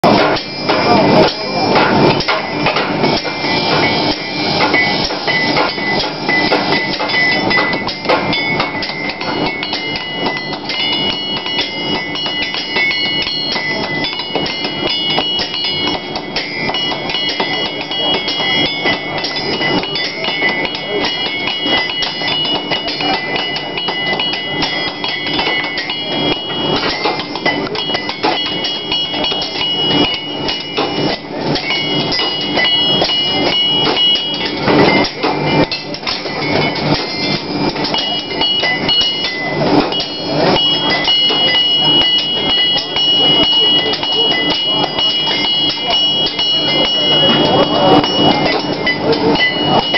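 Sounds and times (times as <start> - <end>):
anvil ringing: 0.0 - 49.9
hammer striking iron on anvil: 0.0 - 49.9.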